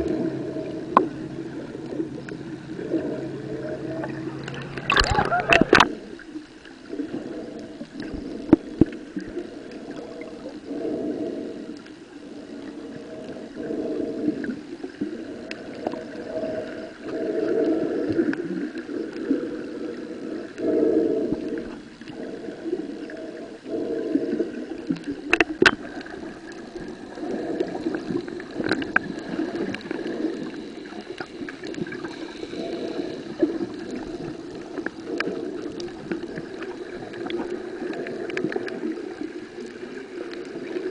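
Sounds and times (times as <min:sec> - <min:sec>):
muffled underwater water noise: 0:00.0 - 0:40.9.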